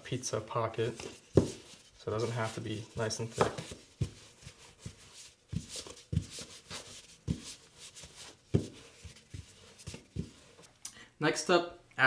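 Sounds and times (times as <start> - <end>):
cup rolling over dough: 0.9 - 10.7.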